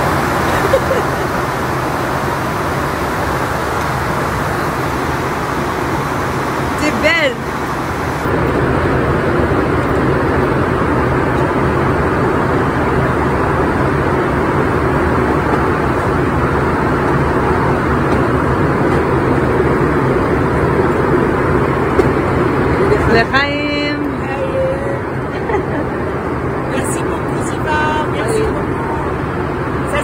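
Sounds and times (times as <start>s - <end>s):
jet cabin engine and airflow noise: 0.0s - 30.0s.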